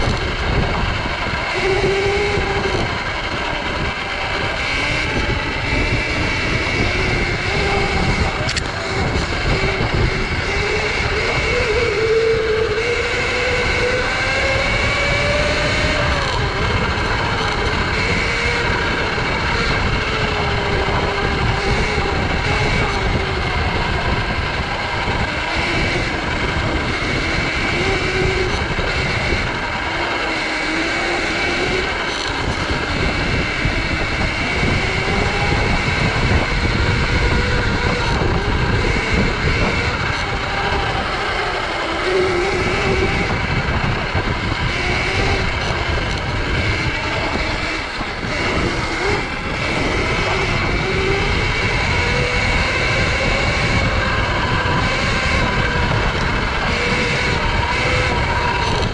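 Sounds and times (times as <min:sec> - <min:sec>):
electric motor whining: 0:00.0 - 0:58.9
wind rumble on microphone: 0:00.0 - 0:58.9.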